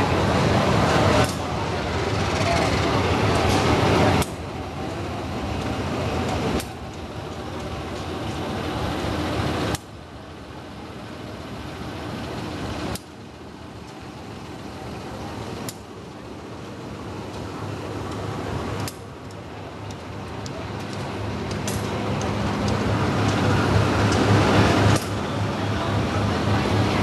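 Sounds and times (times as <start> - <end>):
diesel locomotive engine rumbling: 0.0 - 27.0.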